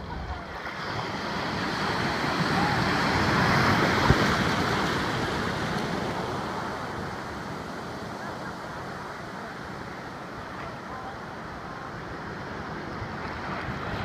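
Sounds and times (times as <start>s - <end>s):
ocean wave breaking: 0.0s - 14.0s.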